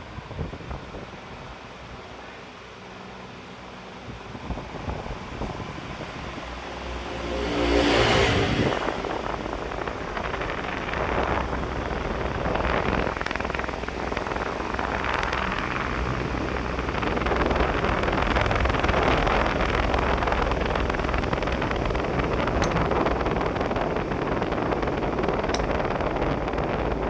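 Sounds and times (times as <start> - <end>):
electric fan running: 0.0 - 27.0.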